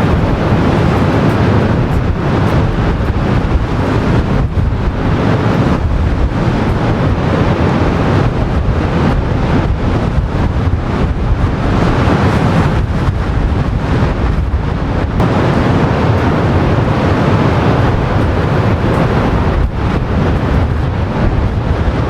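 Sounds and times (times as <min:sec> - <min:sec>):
surf breaking and rushing: 0:00.0 - 0:22.0
wind buffeting microphone: 0:00.0 - 0:22.0.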